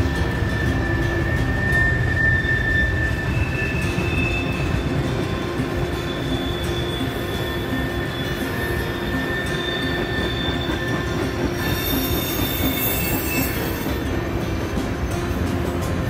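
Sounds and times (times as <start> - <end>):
high-pitched wheel squeal: 0.0 - 15.5
train wheels rumbling on rails: 0.0 - 16.0.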